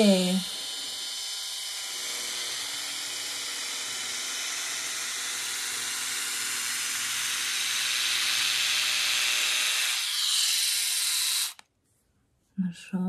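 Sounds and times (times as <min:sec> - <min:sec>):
epilator whirring buzz: 0:00.0 - 0:11.6.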